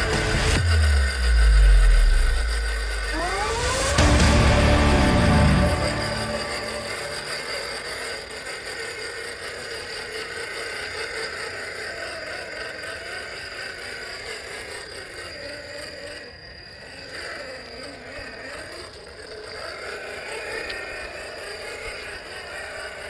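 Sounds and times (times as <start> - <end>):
rc car motor whirring: 0.0 - 4.3, 5.7 - 23.0.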